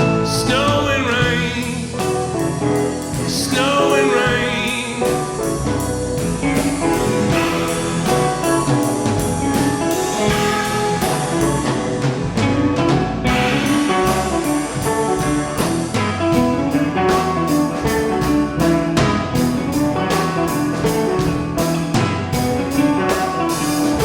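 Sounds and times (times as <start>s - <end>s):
bass: 0.0s - 24.0s
guitar lines: 0.0s - 24.0s
drum beat: 3.1s - 24.0s.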